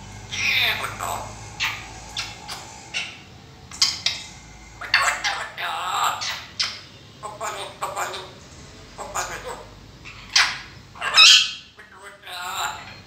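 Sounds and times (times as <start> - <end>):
parrot talk-like calls and clicks: 0.3 - 13.0.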